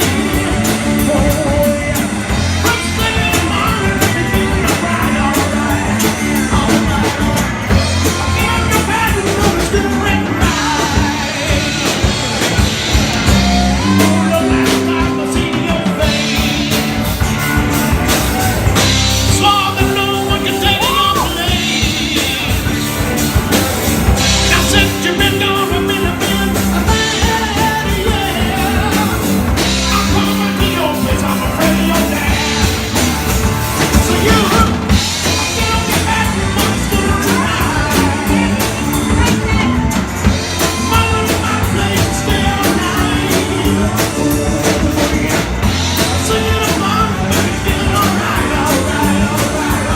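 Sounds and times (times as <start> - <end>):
person singing: 0.0 - 49.9
rock band playing live: 0.0 - 49.9.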